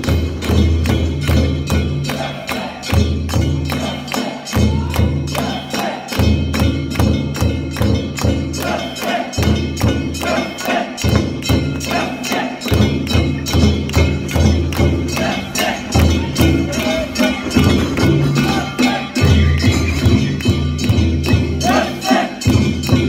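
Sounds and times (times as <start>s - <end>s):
sharp metallic percussion strikes: 0.0s - 23.0s.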